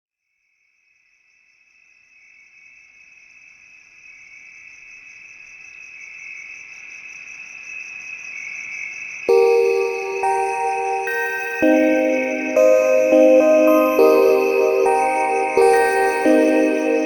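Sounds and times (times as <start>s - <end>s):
insect trill: 0.8s - 17.0s.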